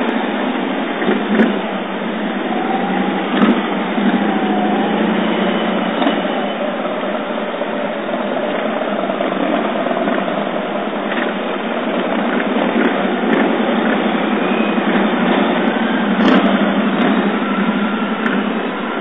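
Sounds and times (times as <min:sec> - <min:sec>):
motorcycle engines droning: 0:00.0 - 0:19.0.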